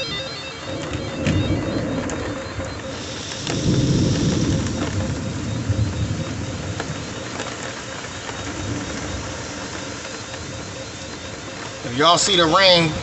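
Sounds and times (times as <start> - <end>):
low rumble of thunder: 0.0 - 11.6
rain falling steadily: 0.0 - 13.0.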